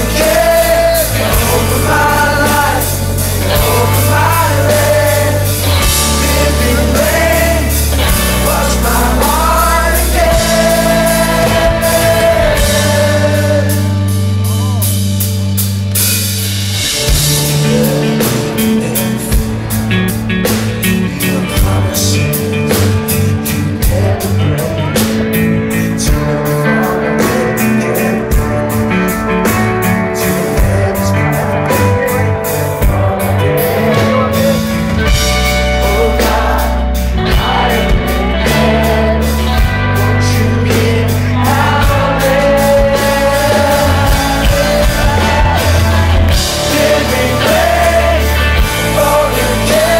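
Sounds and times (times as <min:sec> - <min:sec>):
man singing lead vocal: 0:00.0 - 0:15.1, 0:16.9 - 0:49.9
rock worship band playing: 0:00.0 - 0:49.9
steady drum beat: 0:00.0 - 0:49.9.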